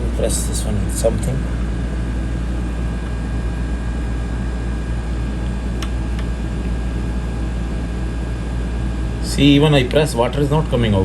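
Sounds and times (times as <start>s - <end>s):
faint whine: 0.0s - 11.0s
low background hum: 0.0s - 11.0s.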